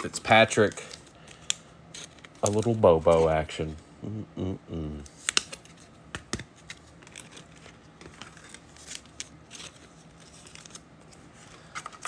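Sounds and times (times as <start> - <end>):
trading cards and foil wrapper crinkling: 0.0 - 3.8, 5.1 - 12.0.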